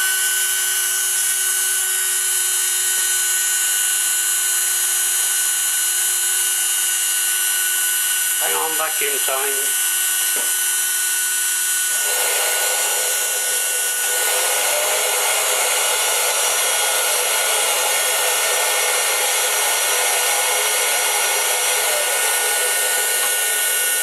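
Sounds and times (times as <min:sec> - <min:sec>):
rotary tool high whine: 0:00.0 - 0:24.0.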